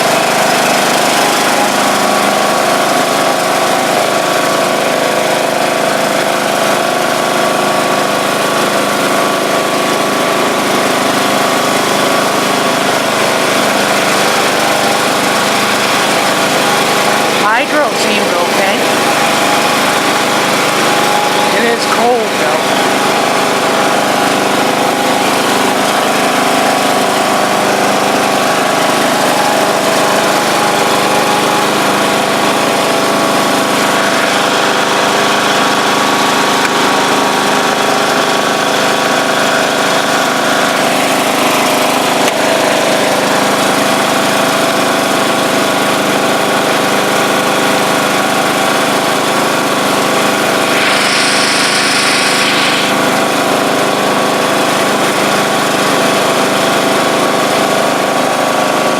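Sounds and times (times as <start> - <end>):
riding mower engine running: 0.0 - 58.9.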